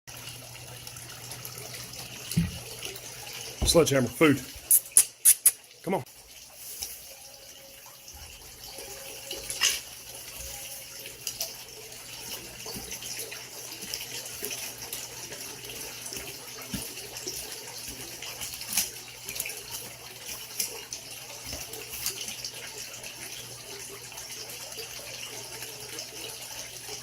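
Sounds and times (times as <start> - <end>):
running splashing water: 0.1 - 27.0.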